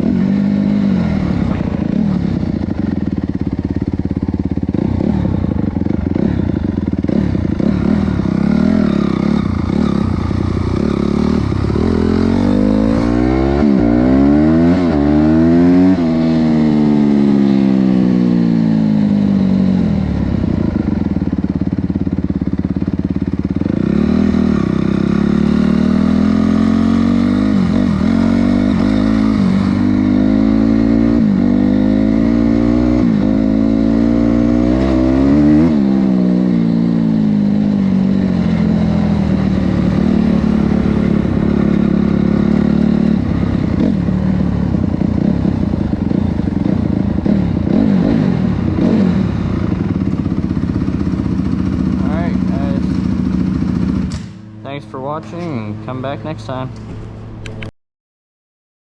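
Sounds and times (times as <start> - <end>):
motorcycle engine revving: 0.0 - 57.7.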